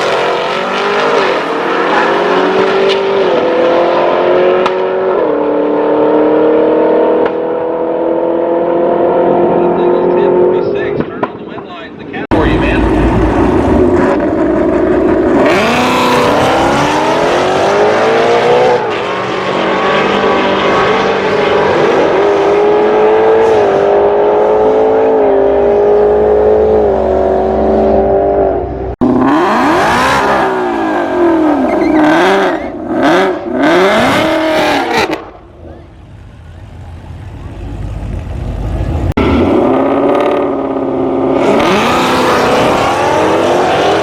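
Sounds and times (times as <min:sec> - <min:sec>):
engine revving: 0:00.0 - 0:10.7, 0:12.3 - 0:35.8, 0:38.5 - 0:44.0
race car engine at full throttle: 0:00.0 - 0:44.0.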